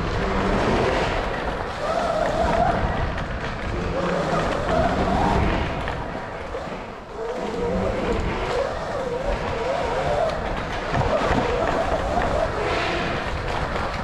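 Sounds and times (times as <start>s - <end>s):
steady rush of noise: 0.0s - 14.0s.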